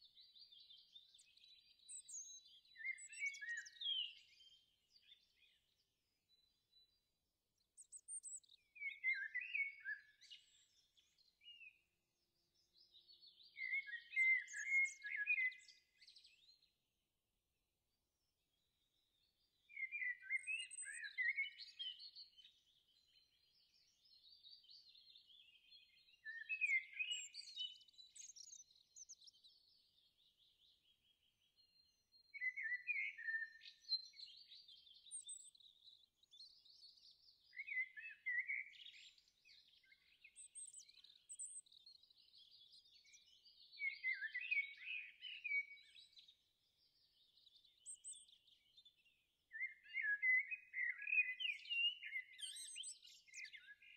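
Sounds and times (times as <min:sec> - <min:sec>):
soft continuous bird twitter: 0:00.0 - 0:53.9
songbirds singing: 0:00.0 - 0:53.9.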